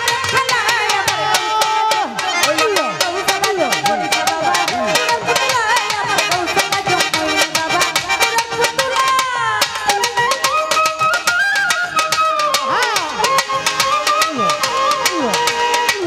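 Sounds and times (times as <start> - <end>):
hand drum rhythm: 0.0 - 16.0
sustained reedy melody: 0.5 - 16.0.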